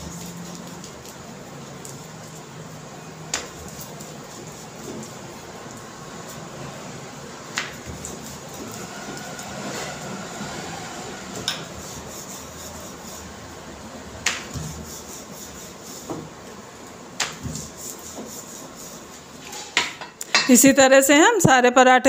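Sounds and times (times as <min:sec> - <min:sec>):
rolling pin rubbing dough: 0:00.0 - 0:19.8.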